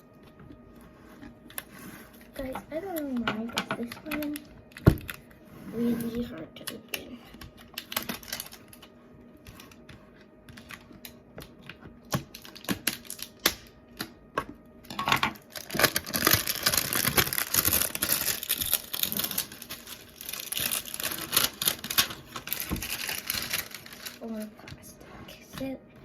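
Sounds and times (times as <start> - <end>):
plastic crinkling: 1.2 - 14.1, 15.3 - 25.4.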